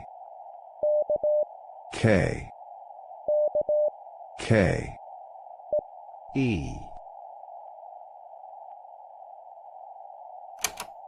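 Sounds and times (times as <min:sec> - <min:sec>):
steady filtered noise hiss: 0:00.0 - 0:11.0.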